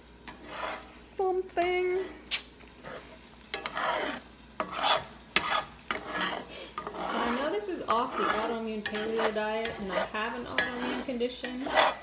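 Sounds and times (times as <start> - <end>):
eggs sizzling in butter: 0.0 - 12.0
utensil scraping a skillet: 0.2 - 1.0, 2.8 - 12.0.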